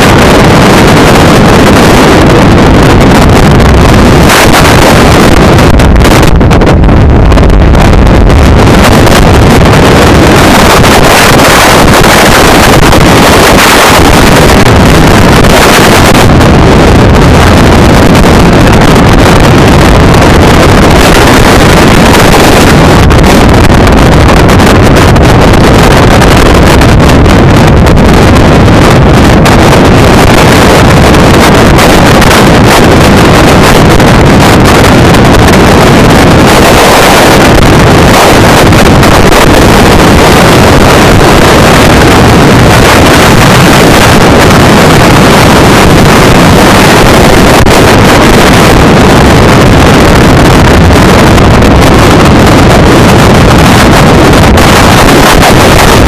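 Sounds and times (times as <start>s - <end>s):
strong wind on microphone: 0.0s - 56.0s.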